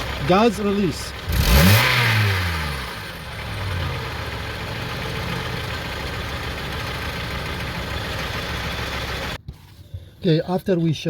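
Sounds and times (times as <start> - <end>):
car engine revving and idling: 0.0 - 9.4.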